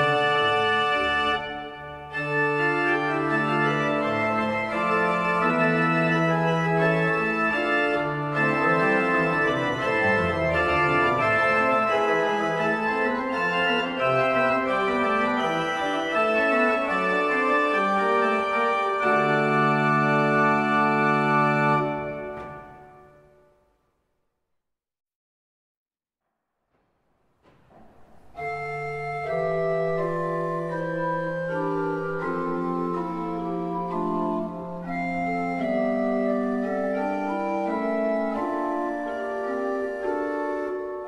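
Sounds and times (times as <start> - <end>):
pipe organ playing baroque piece: 0.0 - 23.6, 27.8 - 41.0.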